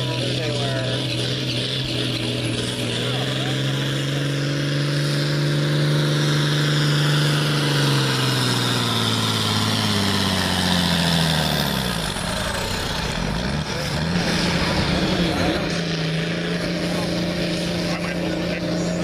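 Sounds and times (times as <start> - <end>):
diesel tractor engine at full throttle: 0.0 - 19.0.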